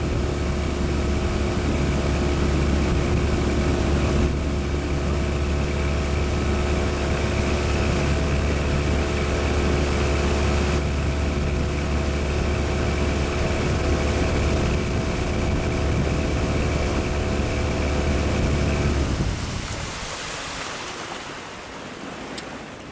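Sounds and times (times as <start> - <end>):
motorboat engine humming: 0.0 - 22.9
rushing water: 0.0 - 22.9
wind: 0.0 - 22.9.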